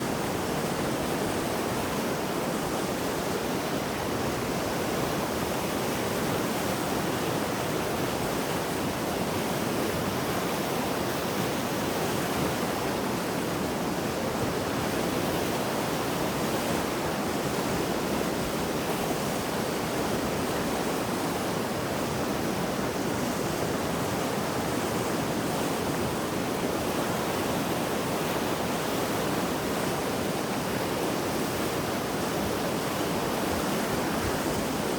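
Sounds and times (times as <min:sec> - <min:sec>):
river rushing: 0:00.0 - 0:34.9.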